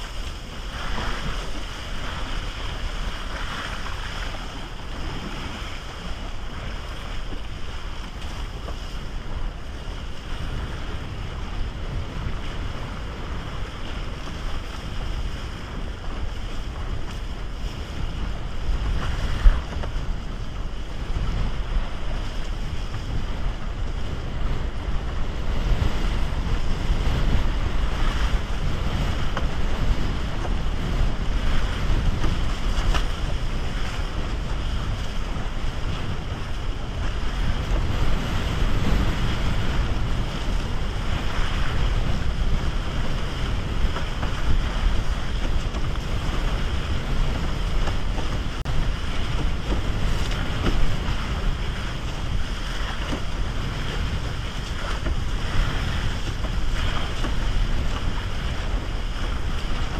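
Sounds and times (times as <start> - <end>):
water rushing and splashing: 0.0 - 59.9
wind buffeting microphone: 0.0 - 59.9.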